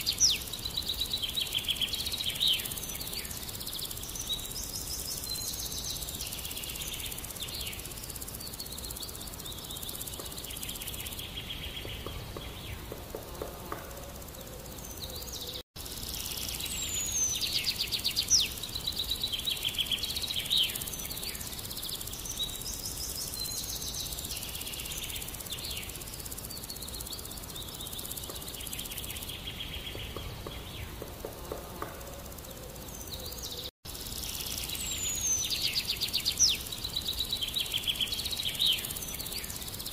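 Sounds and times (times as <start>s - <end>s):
birds chirping and trilling: 0.0s - 39.9s
steady outdoor hiss: 0.0s - 39.9s.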